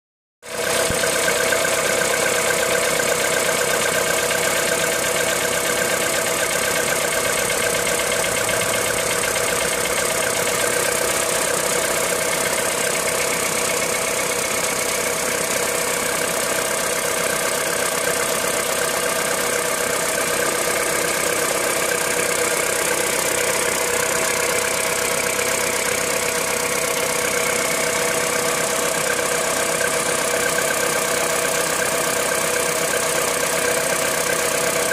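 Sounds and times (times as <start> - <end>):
car engine idling with clatter: 0.5 - 34.9.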